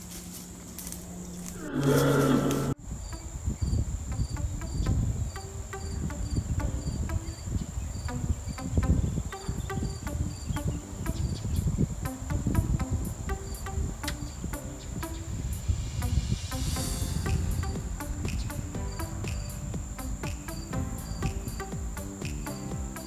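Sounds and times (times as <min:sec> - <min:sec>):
crickets chirping: 0:00.0 - 0:23.0
high insect trill: 0:00.0 - 0:23.0
faint plucked low notes music: 0:04.1 - 0:23.0.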